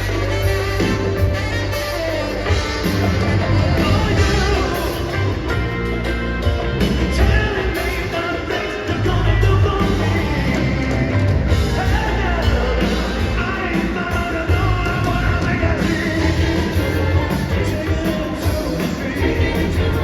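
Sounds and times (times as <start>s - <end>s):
live rock band with singer: 0.0s - 20.0s.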